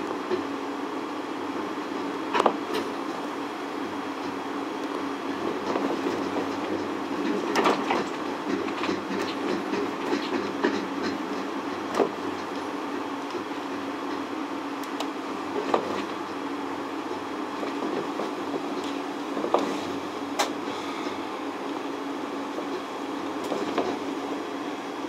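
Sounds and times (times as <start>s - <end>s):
cable car running hum: 0.0s - 25.0s.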